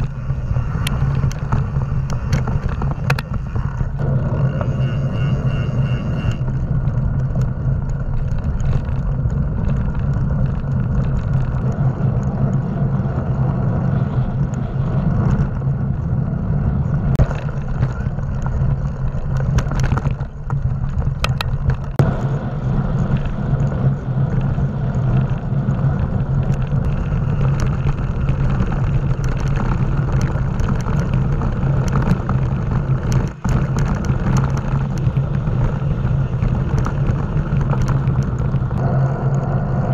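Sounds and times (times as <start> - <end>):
tyres rolling on gravel: 0.0 - 4.9, 6.4 - 39.9
bike rattles and clicks: 0.0 - 39.9
wind rushing over microphone: 0.0 - 39.9.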